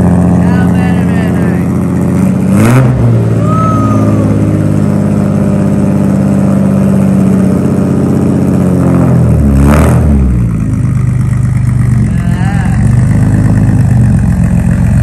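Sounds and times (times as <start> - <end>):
car engine idling loud: 0.0 - 15.0.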